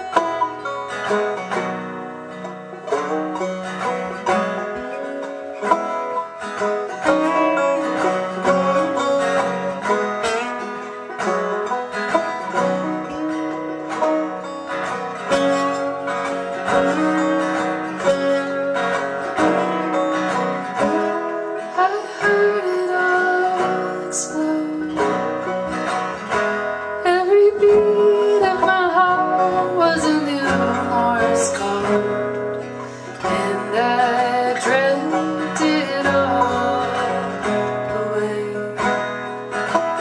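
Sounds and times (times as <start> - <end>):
plucked string instruments: 0.0 - 40.0.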